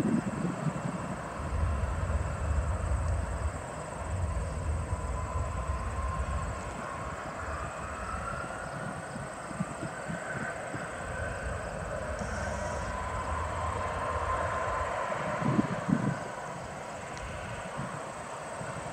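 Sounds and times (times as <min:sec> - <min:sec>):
faint rising whine: 0:00.0 - 0:18.9
jet engines rumble and hiss: 0:00.0 - 0:18.9.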